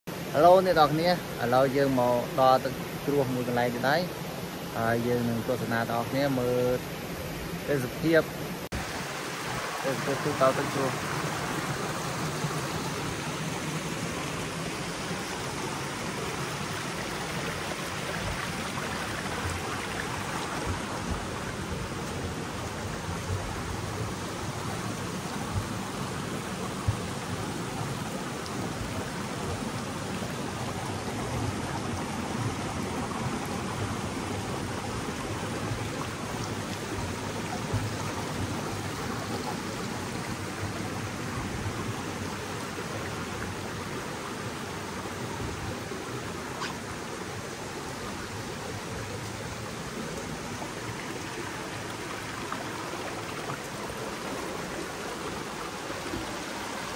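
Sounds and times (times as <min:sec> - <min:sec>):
water rushing over rocks: 0:00.1 - 0:56.9.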